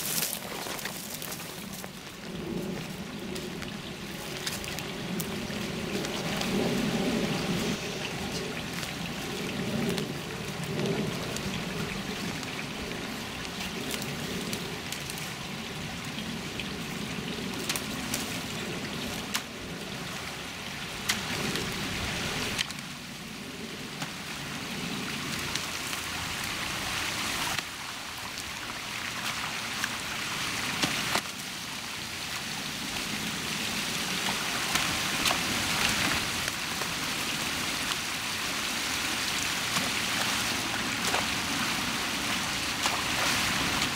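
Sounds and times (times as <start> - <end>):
water trickling through sticks: 0.0 - 22.9, 23.8 - 43.9.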